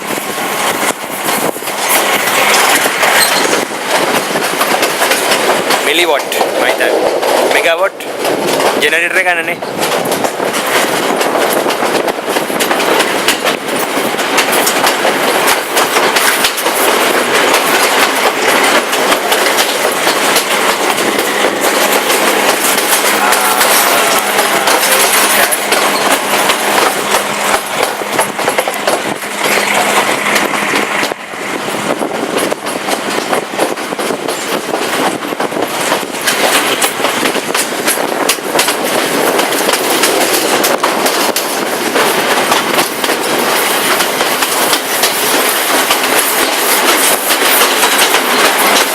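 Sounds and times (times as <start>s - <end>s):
train rumble and rattle: 0.0s - 48.9s
wheels clacking over rail joints: 0.0s - 48.9s.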